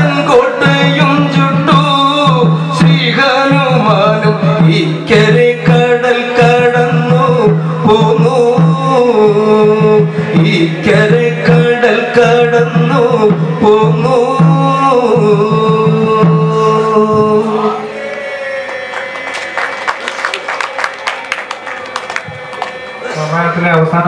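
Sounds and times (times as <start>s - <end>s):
devotional singing: 0.0s - 24.0s.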